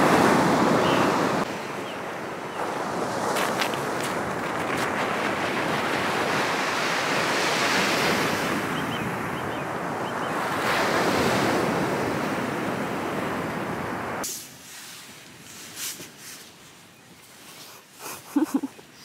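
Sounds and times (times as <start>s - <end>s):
surf on a shingle beach: 0.0s - 19.0s.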